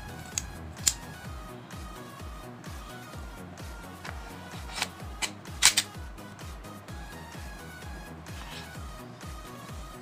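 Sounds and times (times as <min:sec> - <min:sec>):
electronic music with bass drum: 0:00.0 - 0:10.0.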